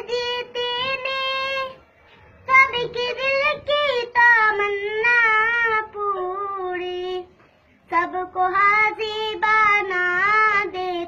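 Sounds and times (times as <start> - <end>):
boy singing a hymn solo: 0.0 - 11.0.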